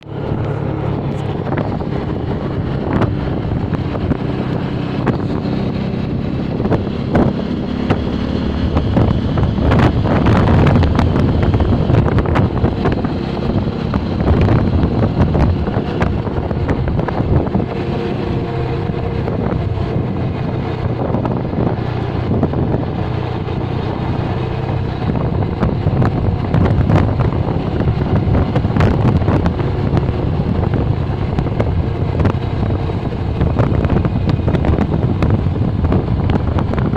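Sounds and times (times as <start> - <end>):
motorcycle engine running: 0.0 - 36.9
wind buffeting microphone: 0.0 - 36.9.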